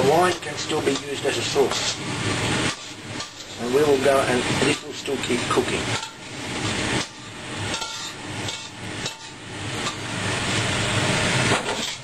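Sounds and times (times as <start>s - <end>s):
metal utensil scraping frying pan: 0.0s - 10.6s, 11.5s - 12.0s.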